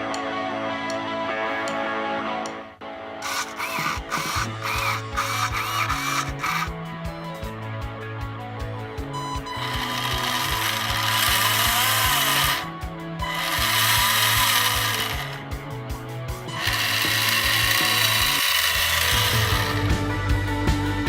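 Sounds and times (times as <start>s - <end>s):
music with steady beat and bass: 3.2s - 21.0s.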